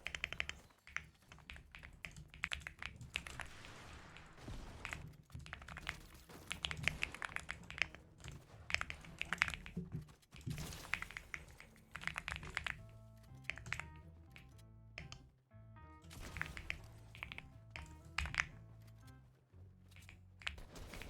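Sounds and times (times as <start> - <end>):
mechanical keyboard typing: 0.0 - 3.7, 4.8 - 15.2, 16.1 - 18.9.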